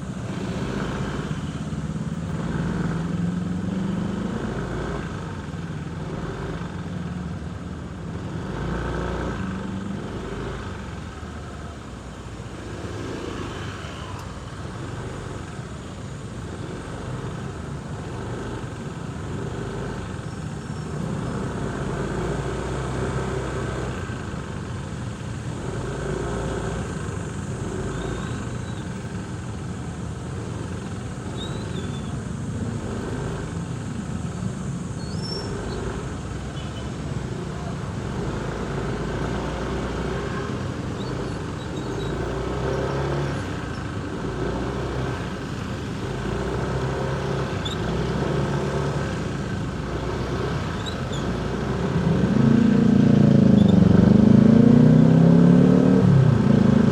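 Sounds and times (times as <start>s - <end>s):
road traffic noise: 0.0s - 56.9s.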